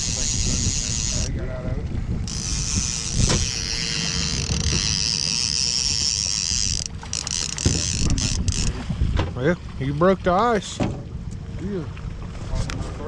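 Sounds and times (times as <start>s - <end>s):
boat motor running: 0.0s - 13.0s
water noise: 0.0s - 13.0s
wind: 0.0s - 13.0s.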